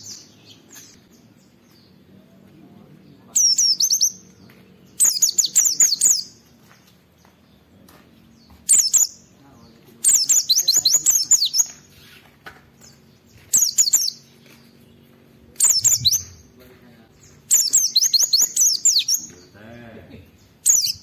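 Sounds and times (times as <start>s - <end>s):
bird twittering chirps: 0.0s - 2.1s, 2.8s - 19.6s, 20.2s - 21.0s.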